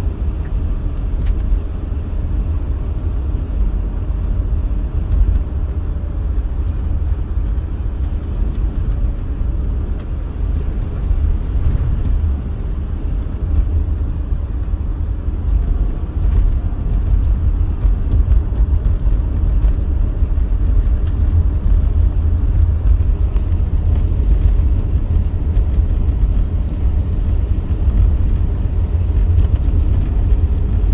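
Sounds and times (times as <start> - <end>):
car engine and road noise: 0.0 - 30.9.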